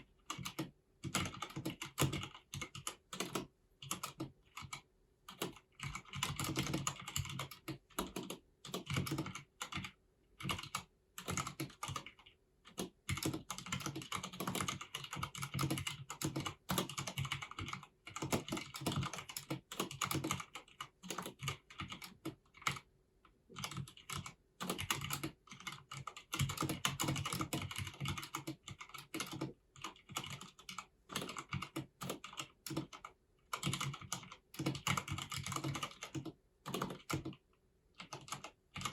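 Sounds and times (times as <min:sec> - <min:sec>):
mechanical keyboard typing: 0:00.0 - 0:22.9, 0:23.5 - 0:38.9.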